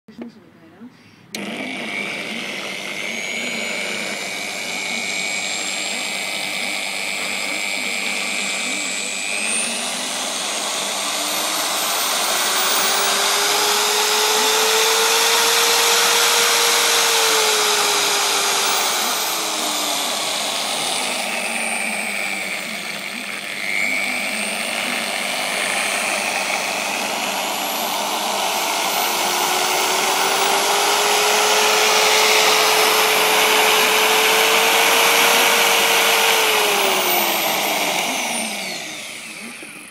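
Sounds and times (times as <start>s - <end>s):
electric motor whining: 1.3s - 39.9s.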